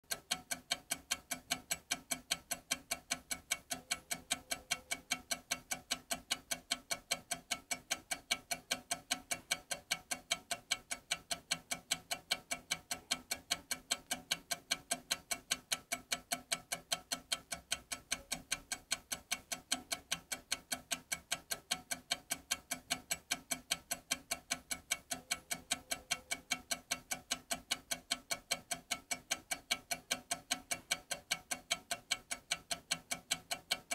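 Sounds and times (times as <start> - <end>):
steady ticks with low tone: 0.0 - 33.9.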